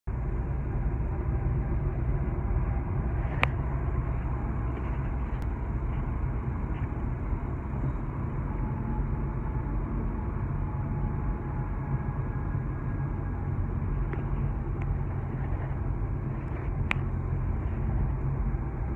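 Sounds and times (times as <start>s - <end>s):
car road and engine rumble: 0.0s - 18.9s.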